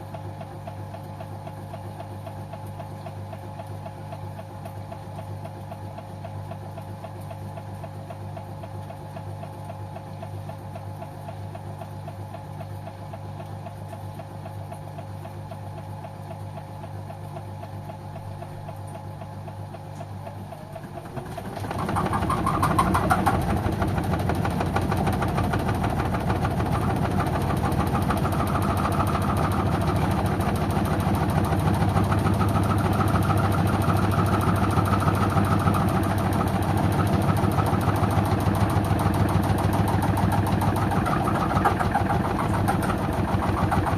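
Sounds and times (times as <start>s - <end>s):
washing machine drum motor running: 0.0s - 43.9s
washing machine hum: 0.0s - 43.9s.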